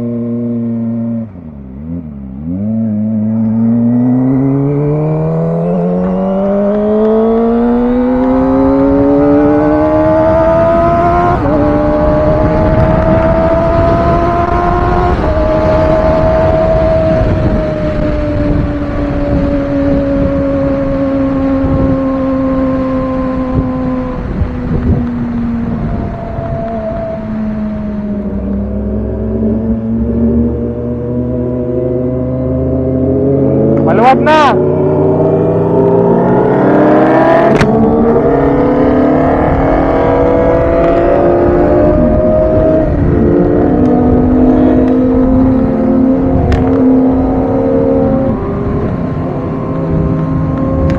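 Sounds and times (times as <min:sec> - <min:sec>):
motorcycle engine while riding: 0:00.0 - 0:50.9.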